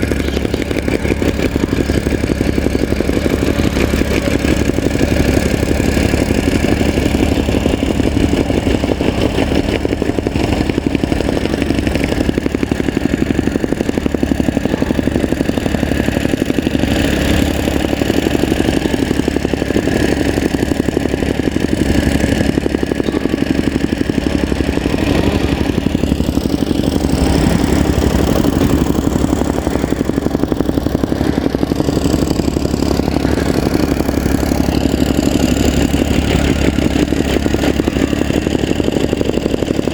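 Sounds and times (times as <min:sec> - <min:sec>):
soil compactor engine running: 0:00.0 - 0:39.9.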